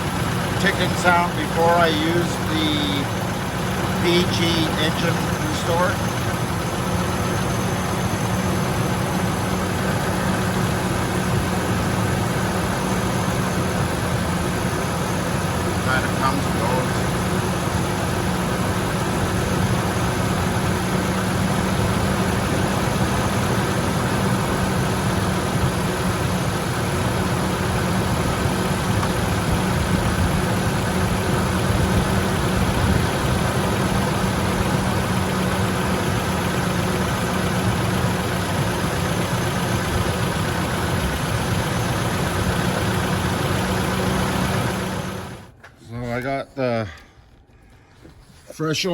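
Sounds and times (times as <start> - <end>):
truck engine idling: 0.0 - 46.8.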